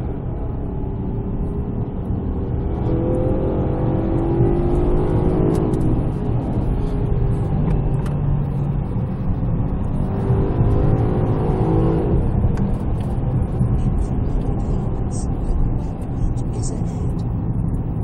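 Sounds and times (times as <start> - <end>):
car engine accelerating: 0.0 - 18.0
road rumble: 0.0 - 18.0.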